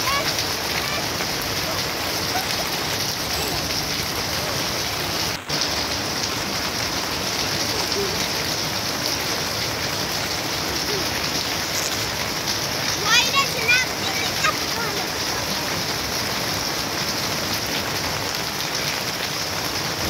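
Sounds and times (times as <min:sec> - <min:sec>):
steady rain pouring: 0:00.0 - 0:20.0.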